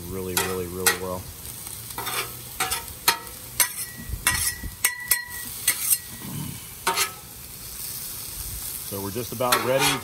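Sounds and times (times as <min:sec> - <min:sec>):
food sizzling: 0:00.0 - 0:10.0
spatulas scraping on griddle: 0:00.1 - 0:08.3, 0:08.9 - 0:10.0.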